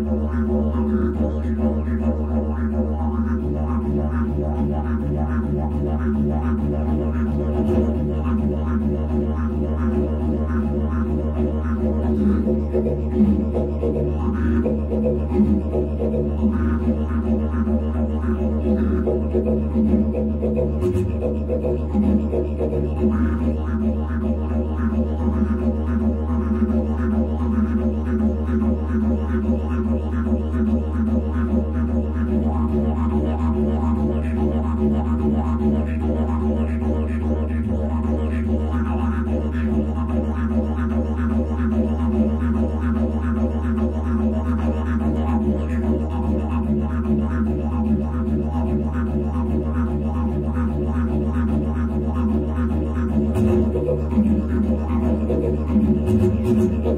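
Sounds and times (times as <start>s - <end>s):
didgeridoo drone: 0.0s - 56.9s.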